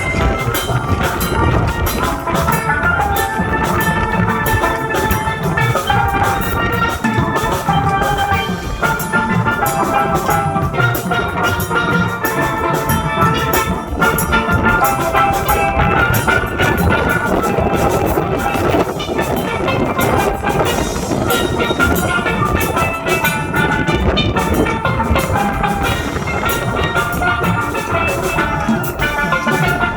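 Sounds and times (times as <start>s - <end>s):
drum kit and percussion beat: 0.0s - 29.9s
steelpan melody: 0.0s - 29.9s.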